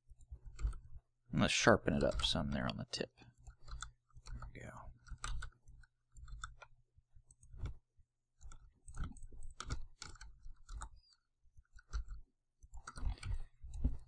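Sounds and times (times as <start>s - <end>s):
computer mouse and keyboard clicking: 0.1s - 1.0s, 1.6s - 7.8s, 8.4s - 14.0s.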